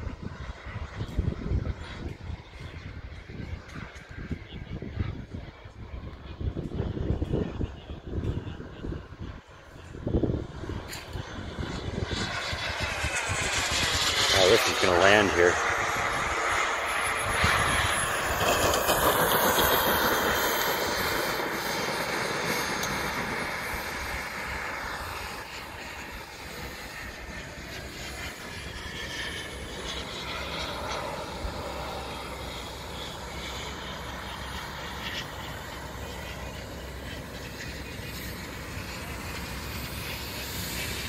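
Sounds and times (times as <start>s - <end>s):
model jet turbine engine: 0.0s - 41.0s.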